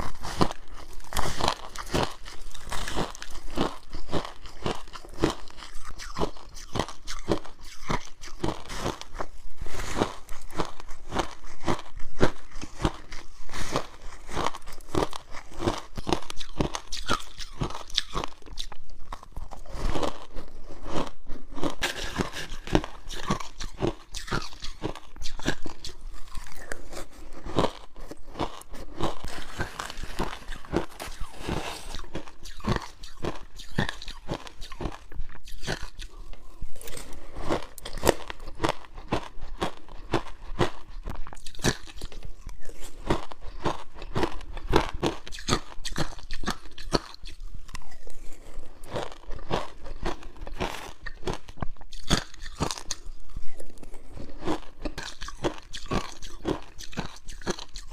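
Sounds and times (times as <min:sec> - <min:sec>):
ice being crunched by teeth: 0:00.0 - 0:57.9.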